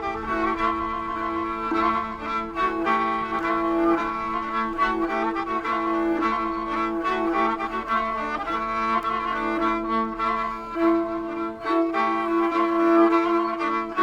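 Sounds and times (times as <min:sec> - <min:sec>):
bowed fiddles droning: 0:00.0 - 0:14.0.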